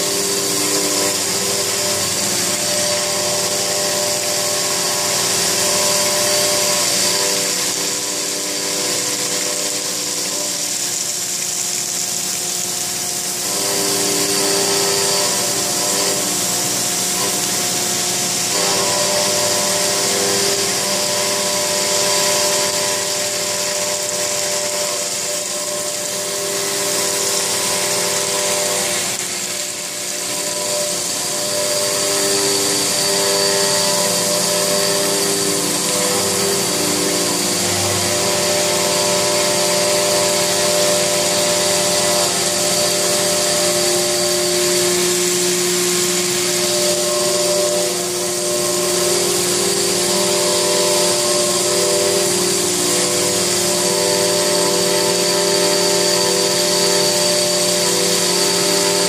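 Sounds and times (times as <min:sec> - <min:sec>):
high-pitched cutting hiss: 0:00.0 - 0:59.0
machine hum of steady tones: 0:00.0 - 0:59.0.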